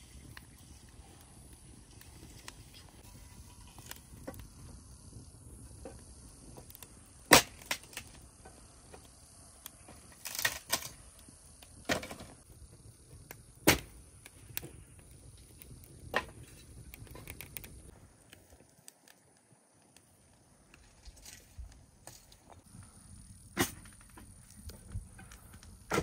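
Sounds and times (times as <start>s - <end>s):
faint steady hiss: 0.0s - 26.0s
wood fire crackling: 0.0s - 26.0s
sharp fire pops: 0.2s - 19.4s, 23.3s - 26.0s.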